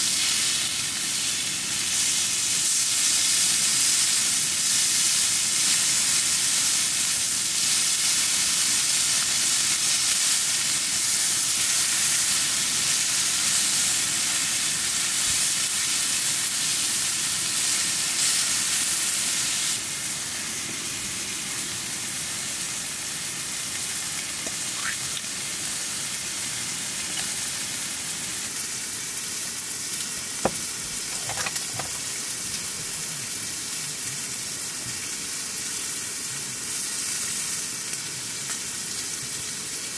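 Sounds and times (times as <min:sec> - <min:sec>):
food sizzling in a hot pan: 0:00.0 - 0:39.9.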